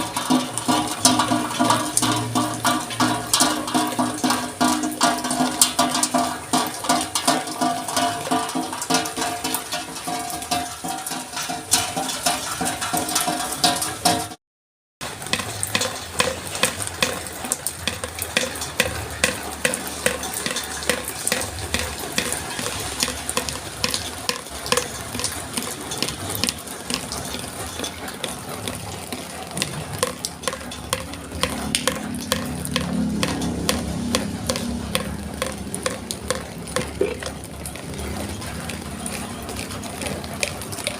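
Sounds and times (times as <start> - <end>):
rain on hard surfaces: 0.0 - 14.4, 15.0 - 40.9.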